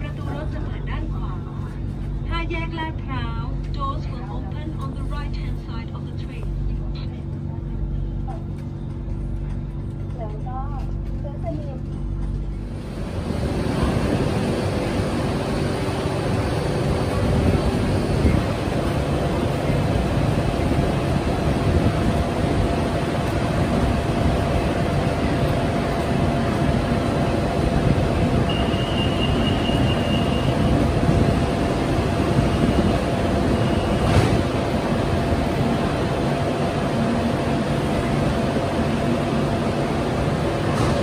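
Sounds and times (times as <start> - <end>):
electric train humming: 0.0 - 41.0.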